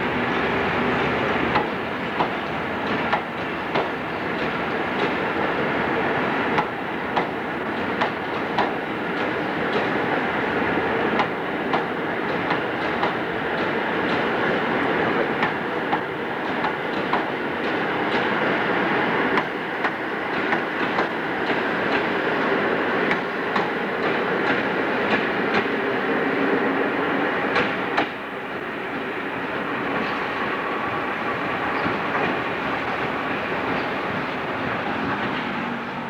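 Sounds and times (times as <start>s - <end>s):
train rumbling over rail joints: 0.0s - 36.0s.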